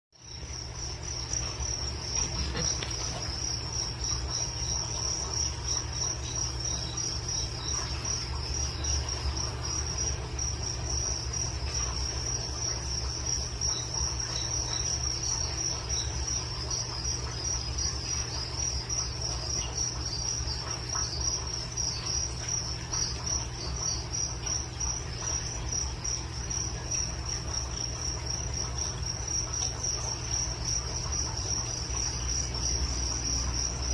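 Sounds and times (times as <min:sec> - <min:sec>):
crickets chirping: 0:00.2 - 0:33.9
steady low hum: 0:00.2 - 0:33.9.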